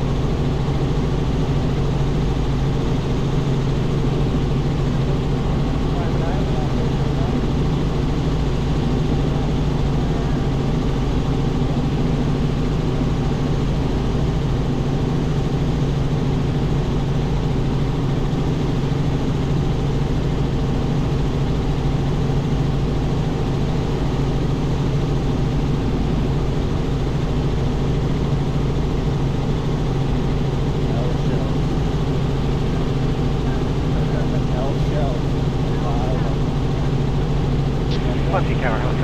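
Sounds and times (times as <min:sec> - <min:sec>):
helicopter engine and rotors hum: 0:00.0 - 0:39.0.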